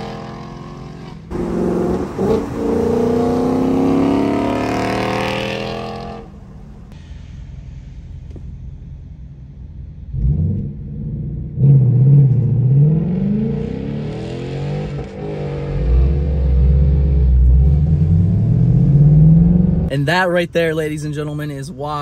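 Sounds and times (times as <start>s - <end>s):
car engine rumbling and accelerating: 0.0s - 22.0s.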